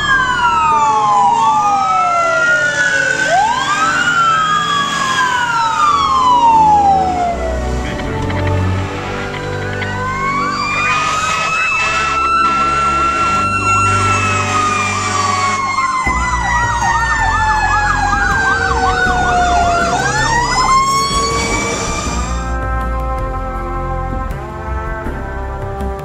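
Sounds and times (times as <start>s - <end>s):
warbling yelp siren: 0.0s - 22.4s
wailing siren: 0.0s - 23.4s
low vehicle rumble: 0.0s - 26.0s.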